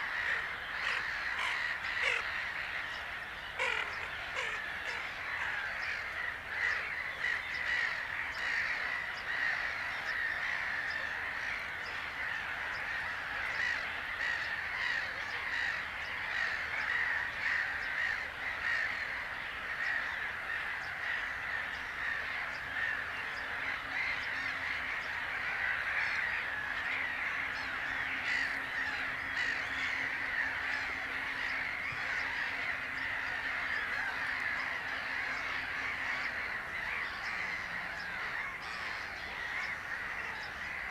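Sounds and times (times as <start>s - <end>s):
many birds chattering: 0.0s - 40.9s.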